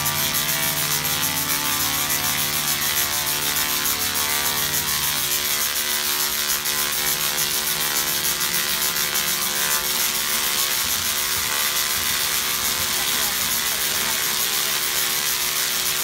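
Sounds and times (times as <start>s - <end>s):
tesla coil crackling buzz: 0.0s - 16.0s.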